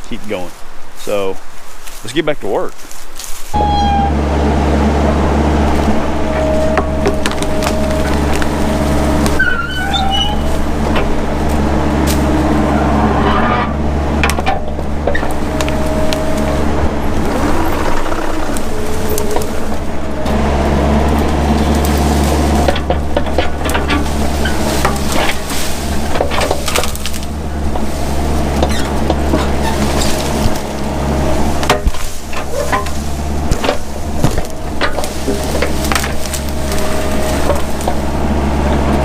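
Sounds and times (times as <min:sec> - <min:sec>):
brush and trees cracking: 0:00.0 - 0:03.6, 0:04.8 - 0:13.0, 0:13.9 - 0:39.0
hydraulics whining: 0:03.5 - 0:39.0
mini excavator engine running: 0:03.6 - 0:39.0.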